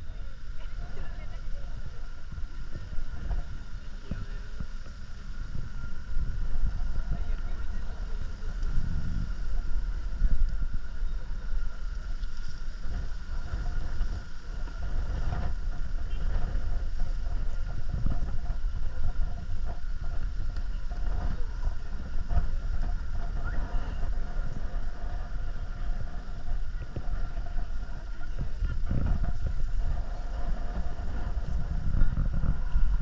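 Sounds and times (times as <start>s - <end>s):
faint high whine: 0.0s - 33.0s
wind buffeting microphone: 0.0s - 33.0s.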